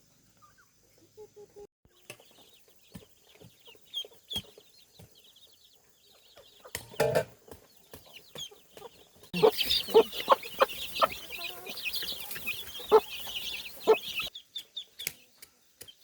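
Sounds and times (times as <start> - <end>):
ducklings peeping: 0.3 - 16.0.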